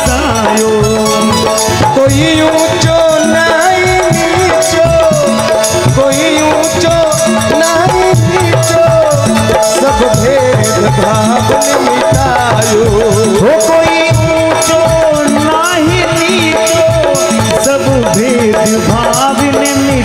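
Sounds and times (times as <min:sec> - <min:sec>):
hand drum beats: 0:00.0 - 0:20.0
harmonium and keyboard melody: 0:00.0 - 0:20.0.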